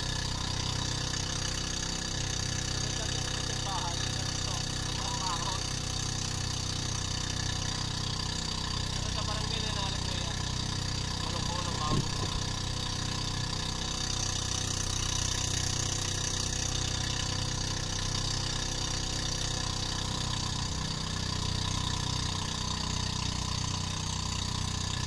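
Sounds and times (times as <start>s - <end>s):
boat engine running: 0.0s - 25.0s
wind: 0.0s - 25.0s.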